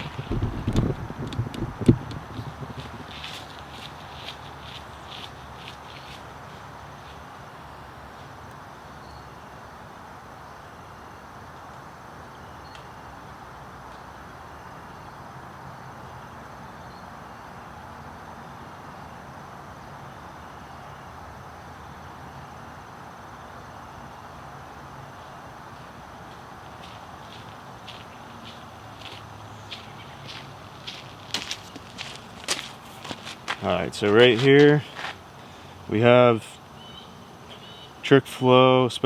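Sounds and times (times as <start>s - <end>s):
background hiss: 0.0s - 39.0s.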